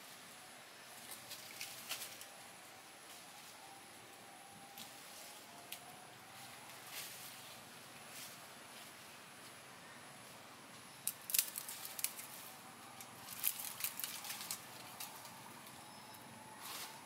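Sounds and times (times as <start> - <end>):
faint steady forest hiss: 0.0 - 17.0
dry leaves crackling and rustling: 0.9 - 9.2, 11.0 - 17.0.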